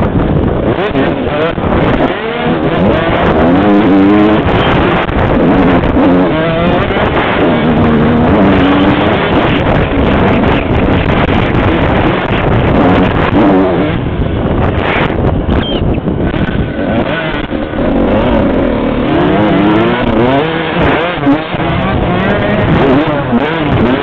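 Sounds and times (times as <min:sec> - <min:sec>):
motocross engine revving: 0:00.0 - 0:24.0.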